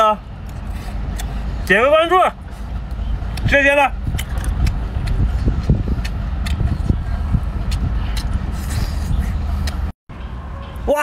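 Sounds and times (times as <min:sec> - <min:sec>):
steady low rumble: 0:00.2 - 0:10.4.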